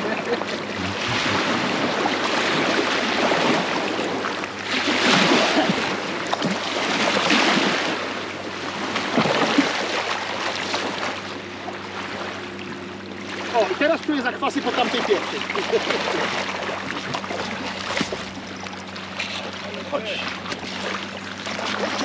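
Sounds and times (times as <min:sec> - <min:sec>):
rushing river water: 0:00.0 - 0:22.0
wind: 0:00.0 - 0:22.0.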